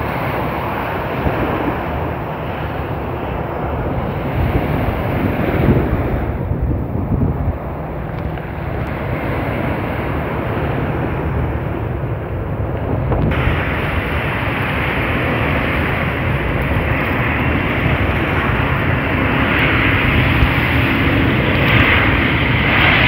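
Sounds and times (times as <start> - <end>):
jet airliner engines: 0.0 - 23.0
surf: 0.0 - 23.0
wind buffeting microphone: 0.0 - 23.0.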